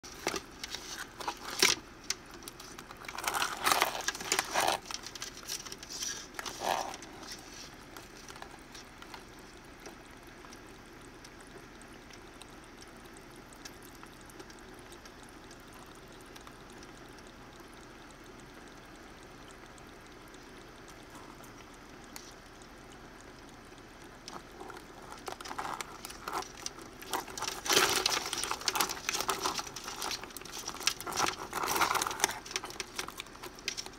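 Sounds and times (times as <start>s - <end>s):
crabs rustling and clicking: 0.0s - 33.9s.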